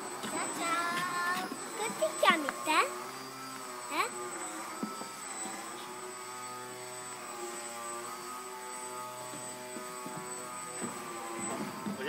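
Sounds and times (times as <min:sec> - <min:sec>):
model plane propeller buzzing: 0:00.0 - 0:12.0.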